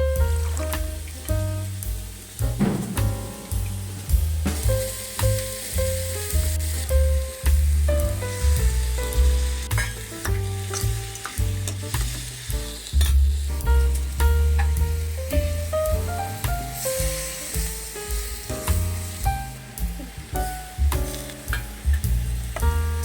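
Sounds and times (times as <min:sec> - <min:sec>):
background music with bass line: 0:00.0 - 0:23.0
food sizzling in oil: 0:00.0 - 0:23.0.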